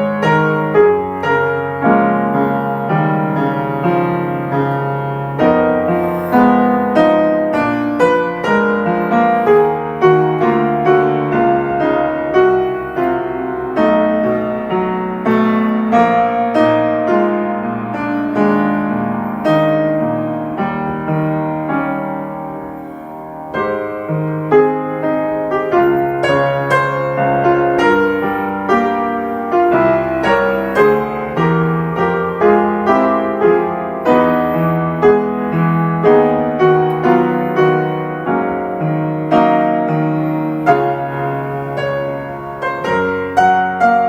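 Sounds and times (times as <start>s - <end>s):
slow piano piece: 0.0s - 44.0s.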